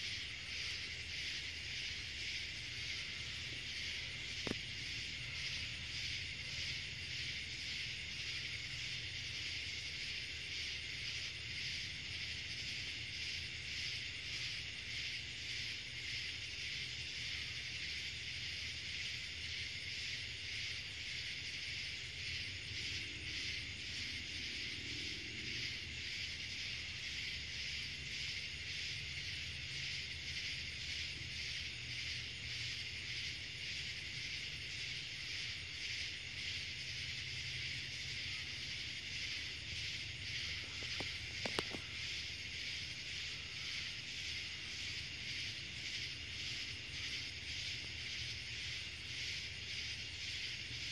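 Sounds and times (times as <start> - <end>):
night insects chorus pulsing: 0.0 - 50.9.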